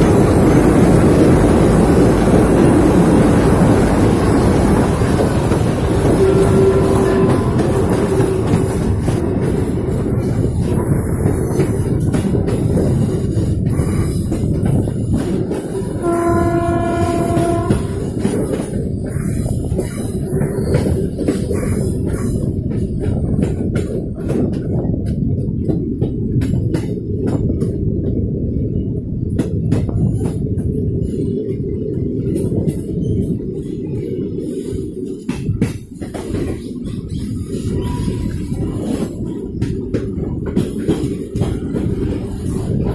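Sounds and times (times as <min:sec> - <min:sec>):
train wheels knocking: 0:00.0 - 0:30.8, 0:34.1 - 0:42.9
train rumbling on track: 0:00.0 - 0:42.9.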